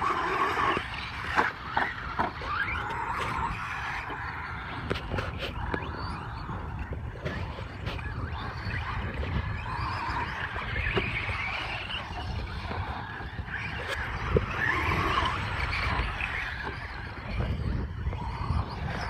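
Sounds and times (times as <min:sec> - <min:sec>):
rc truck motors whining: 0:00.0 - 0:19.0
tyres scrabbling in dirt: 0:00.0 - 0:19.0
wind rumble on microphone: 0:00.0 - 0:19.0.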